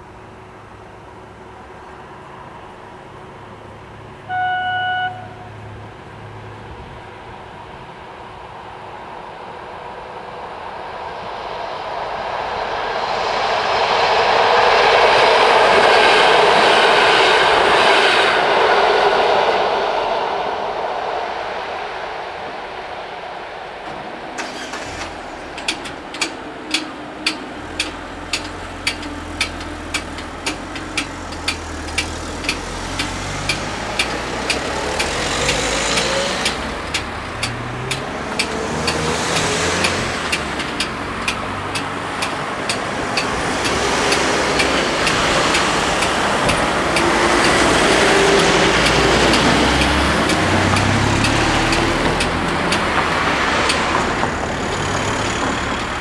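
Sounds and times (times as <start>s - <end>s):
car engines idling: 0.0s - 17.8s, 18.4s - 56.0s
cars driving by: 0.0s - 56.0s.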